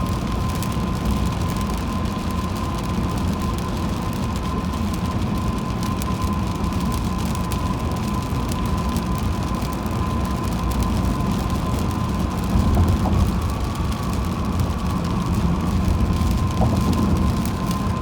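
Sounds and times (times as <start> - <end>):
thin constant whine: 0.0 - 18.0
tyres rumbling on wet road: 0.0 - 18.0.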